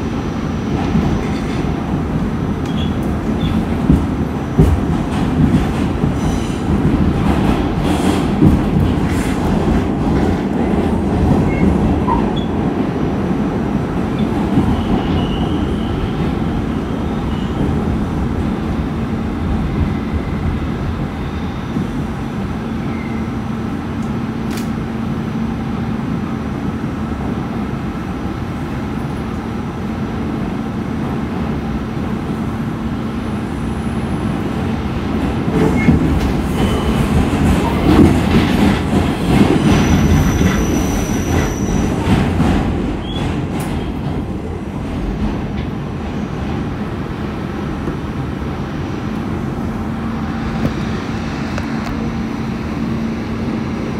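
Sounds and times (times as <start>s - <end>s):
subway wheels rumbling on rails: 0.0s - 53.9s.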